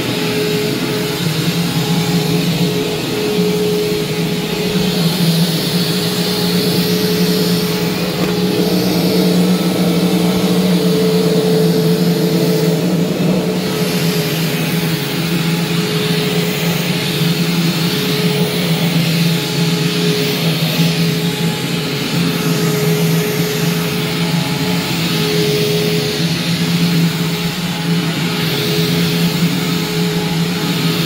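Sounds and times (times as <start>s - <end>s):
vacuum cleaner running on carpet: 0.0s - 31.0s.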